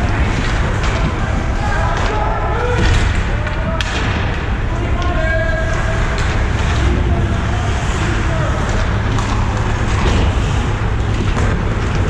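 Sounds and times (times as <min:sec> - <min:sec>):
voices talking: 0:00.0 - 0:10.9
low rumble of rink: 0:00.0 - 0:12.0.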